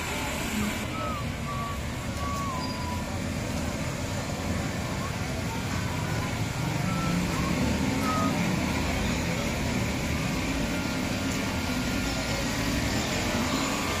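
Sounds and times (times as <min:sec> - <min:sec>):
steady engine hum: 0:00.0 - 0:14.0.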